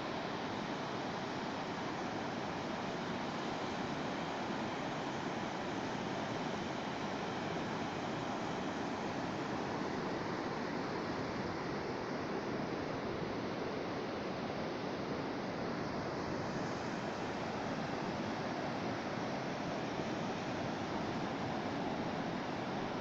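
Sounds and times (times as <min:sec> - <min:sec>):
surf washing on shore: 0:00.0 - 0:23.0.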